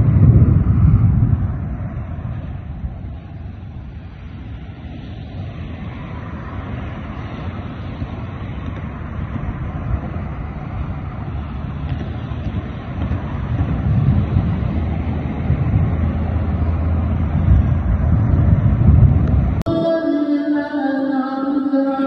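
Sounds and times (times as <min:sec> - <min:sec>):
thunder rumbling: 0:00.0 - 0:20.0
wind rushing over microphone: 0:00.0 - 0:20.1.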